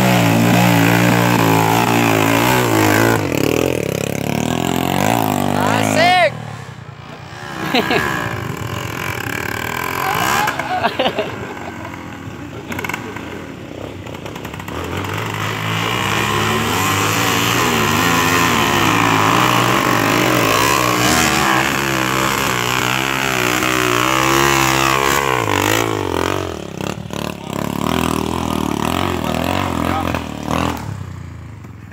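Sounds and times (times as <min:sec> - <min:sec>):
dirt bike engine revving: 0:00.0 - 0:31.8.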